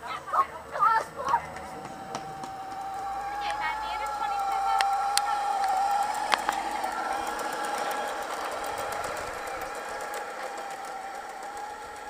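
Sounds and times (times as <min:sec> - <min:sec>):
electric motor whine: 0:00.0 - 0:12.0
model train wheel clicks: 0:00.0 - 0:12.0.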